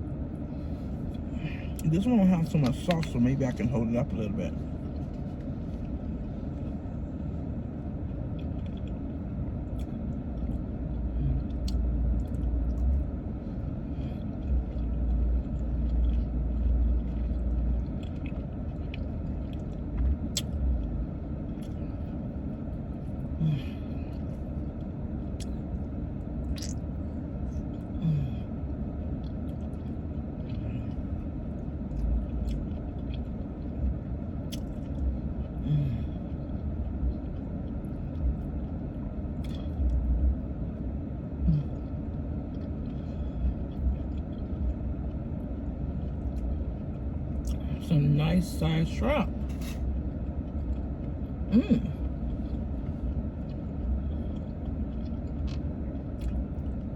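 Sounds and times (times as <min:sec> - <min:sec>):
low rumble inside car: 0:00.0 - 0:56.9
person chewing: 0:02.5 - 0:40.8, 0:41.4 - 0:47.6, 0:49.3 - 0:56.9.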